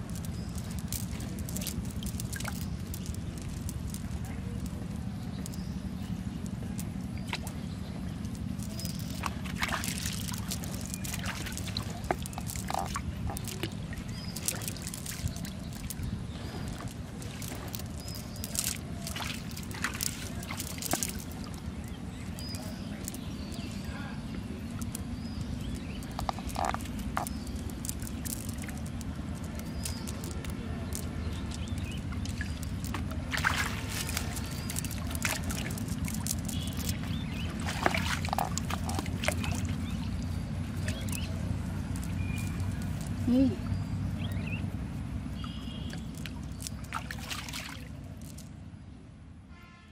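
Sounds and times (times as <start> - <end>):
water splashing and dripping: 0.0 - 44.1, 45.2 - 48.6
steady low rumble: 0.0 - 49.5.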